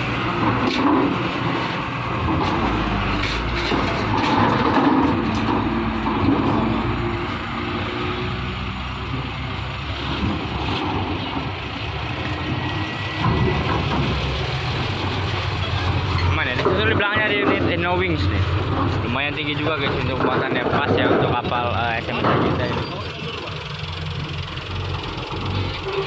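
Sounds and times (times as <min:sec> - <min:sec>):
diesel truck driving slowly: 0:00.0 - 0:26.0.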